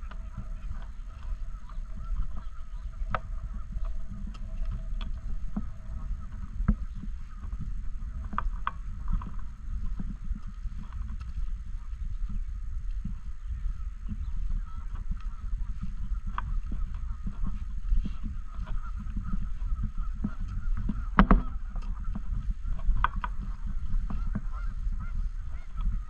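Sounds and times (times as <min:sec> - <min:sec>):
geese honking: 0:00.0 - 0:26.0
low rumble: 0:00.0 - 0:26.0.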